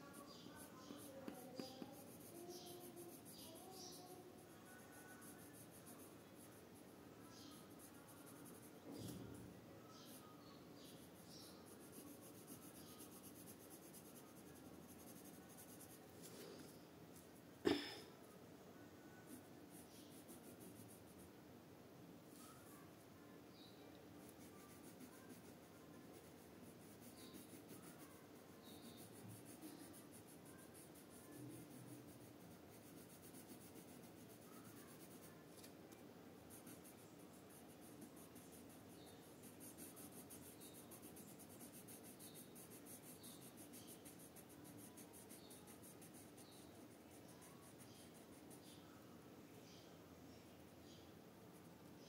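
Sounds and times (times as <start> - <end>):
colored pencil scratching on paper: 0.0 - 16.8, 19.1 - 21.3, 23.5 - 48.9.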